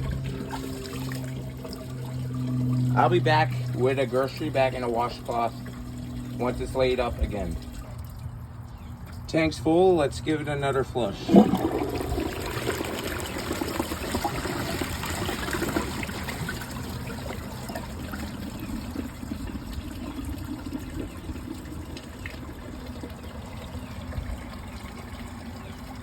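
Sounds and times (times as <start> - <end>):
toilet flushing: 0.0 - 8.1, 11.0 - 26.0
water running and trickling: 0.0 - 9.3, 11.1 - 26.0.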